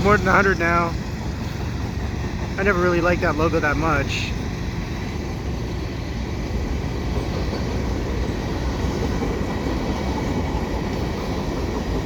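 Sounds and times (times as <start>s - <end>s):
freight train cars rolling past: 0.0s - 12.0s.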